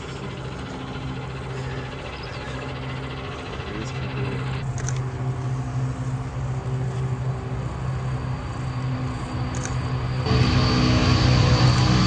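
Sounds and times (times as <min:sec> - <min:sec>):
propeller aircraft droning: 0:00.0 - 0:12.0.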